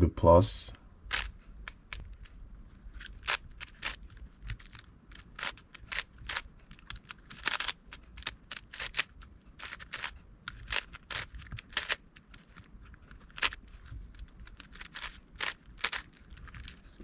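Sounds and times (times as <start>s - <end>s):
puzzle cube layers clicking: 1.1s - 17.0s.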